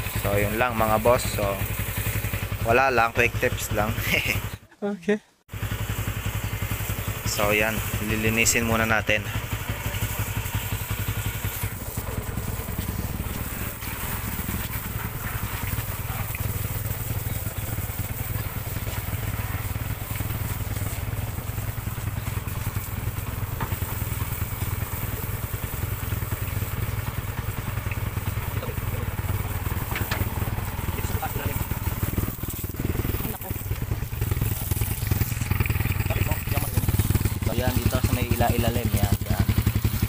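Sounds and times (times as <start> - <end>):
hose water spraying on metal: 0.0 - 4.6, 5.5 - 40.0
motorcycle engine idling: 0.0 - 4.7, 5.5 - 40.0.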